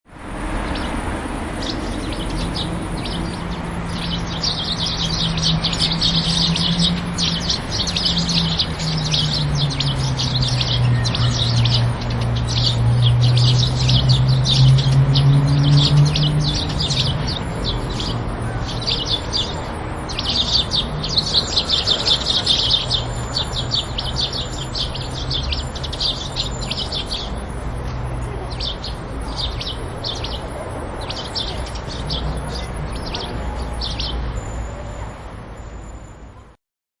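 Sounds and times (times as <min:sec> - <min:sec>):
sparrows chirping: 0:00.2 - 0:36.4.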